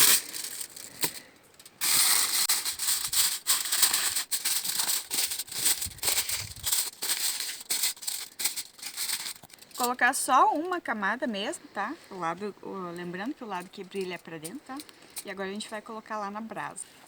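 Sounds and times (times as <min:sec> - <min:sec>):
aluminium foil crinkling: 0:00.0 - 0:10.8, 0:12.9 - 0:15.9.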